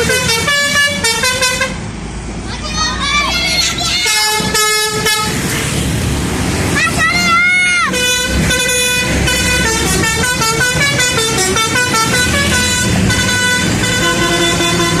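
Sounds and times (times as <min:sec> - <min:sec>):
multi-tone bus horn tune: 0:00.0 - 0:01.8, 0:03.4 - 0:05.5, 0:06.8 - 0:15.0
bus engine running: 0:00.0 - 0:15.0.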